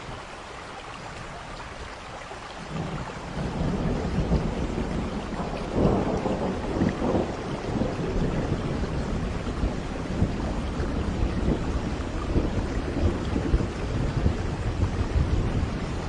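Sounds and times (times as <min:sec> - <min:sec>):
rain falling: 0:00.0 - 0:16.0
thunder rumbling: 0:02.7 - 0:16.0.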